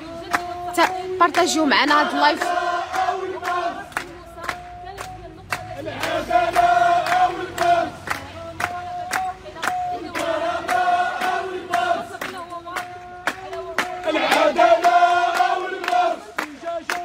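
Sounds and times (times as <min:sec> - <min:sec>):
crowd chanting slogans: 0:00.0 - 0:17.0.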